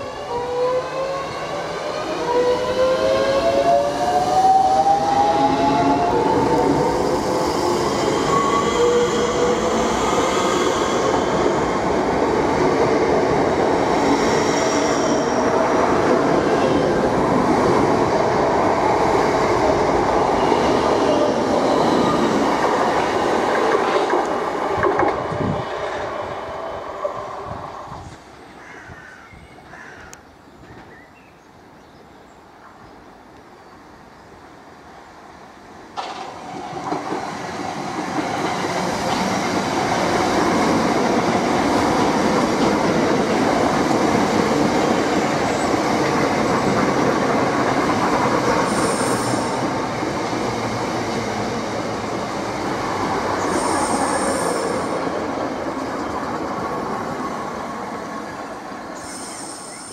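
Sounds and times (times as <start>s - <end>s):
train wheels on rails: 0.4s - 28.4s, 35.7s - 59.9s.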